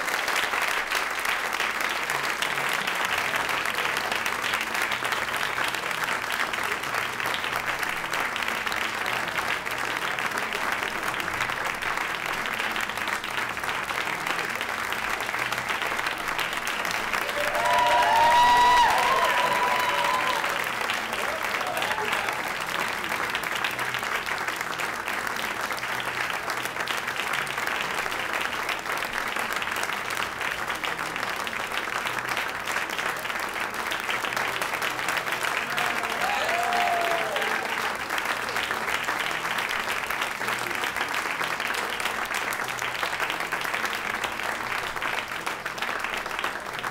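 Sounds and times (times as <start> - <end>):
audience applauding: 0.0 - 46.9.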